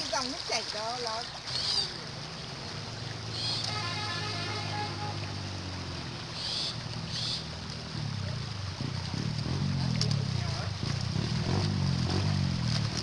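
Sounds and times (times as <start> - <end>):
net splashing in water: 0.0 - 13.0
low motor hum: 1.2 - 13.0.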